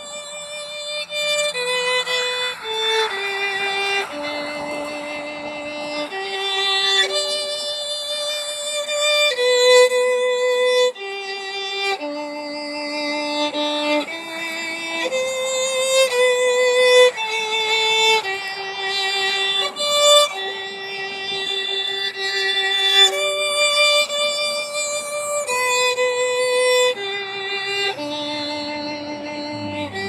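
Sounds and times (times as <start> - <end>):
solo violin melody: 0.0 - 30.0.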